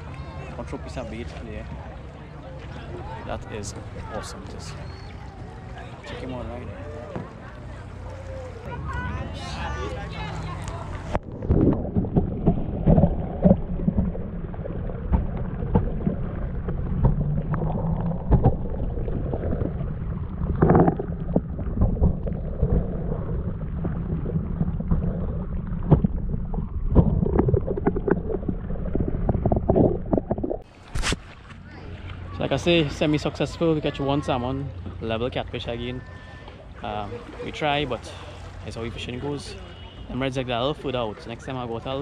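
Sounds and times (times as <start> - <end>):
muffled underwater water sloshing: 0.0 - 42.0.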